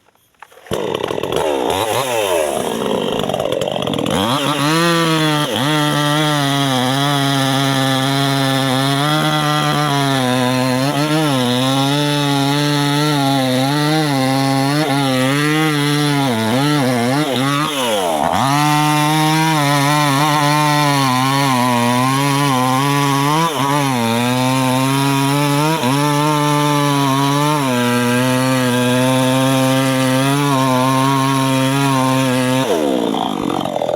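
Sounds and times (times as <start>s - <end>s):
chainsaw cutting tree trunk: 0.0s - 33.9s.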